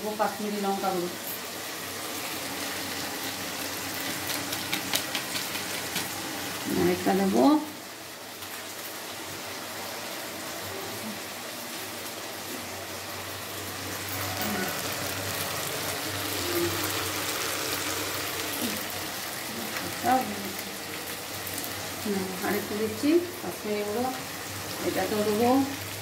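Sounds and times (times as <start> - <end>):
sauce sizzling in hot oil: 0.0 - 26.0.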